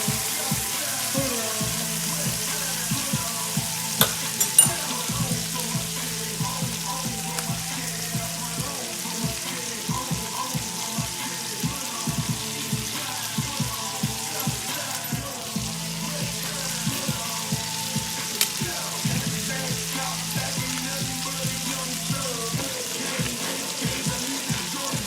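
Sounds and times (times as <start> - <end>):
background music: 0.0 - 25.0
chicken sizzling in a pan: 0.0 - 25.0.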